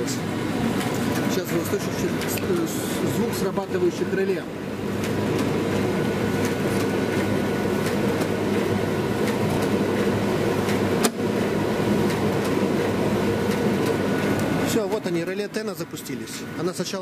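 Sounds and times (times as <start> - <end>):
tumble dryer motor and fan hum: 0.0 - 17.0.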